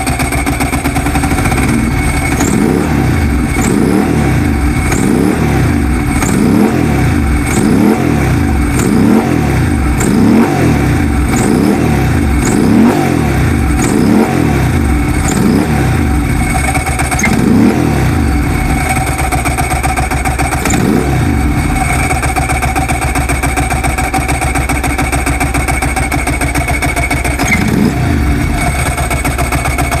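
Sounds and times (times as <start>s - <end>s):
motorcycle engine idling: 0.0s - 30.0s
motorcycle engine throttle blips: 0.0s - 30.0s.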